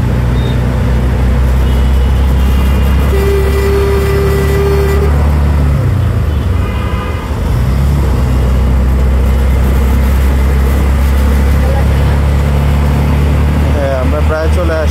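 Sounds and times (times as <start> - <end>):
steady horn tone: 0.0 - 13.8
auto-rickshaw engine running: 0.0 - 14.9
traffic noise: 0.0 - 14.9.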